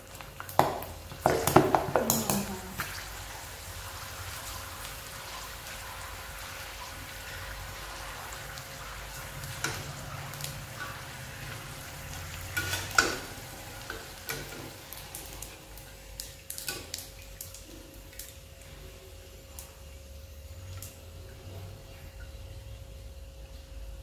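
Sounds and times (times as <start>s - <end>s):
beans sizzling in oil: 0.0s - 23.5s.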